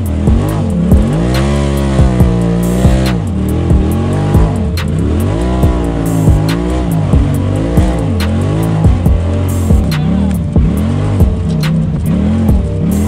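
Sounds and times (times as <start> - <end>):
engine revving: 0.0 - 13.0
music with drum beat: 0.0 - 13.0.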